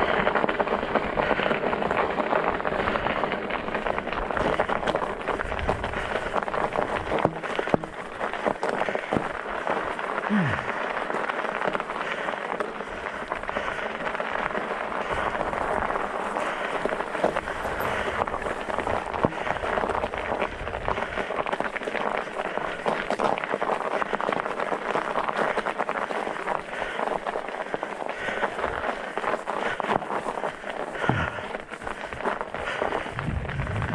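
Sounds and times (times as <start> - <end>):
bike tires crunching on ice: 0.0 - 33.9.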